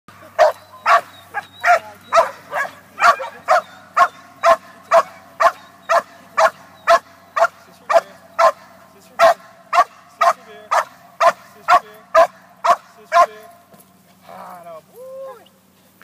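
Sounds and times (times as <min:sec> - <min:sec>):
dog barking: 0:00.4 - 0:13.5.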